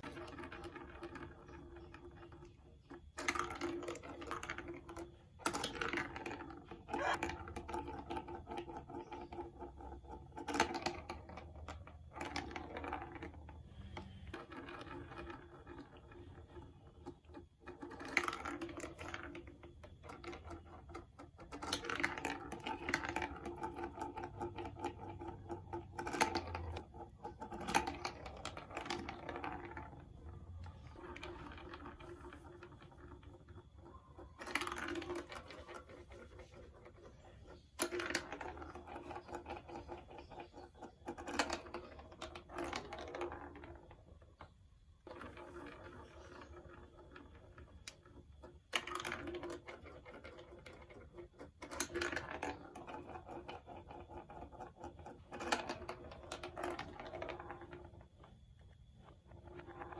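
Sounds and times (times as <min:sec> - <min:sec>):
marbles rattling down plastic track: 0:00.0 - 0:59.9.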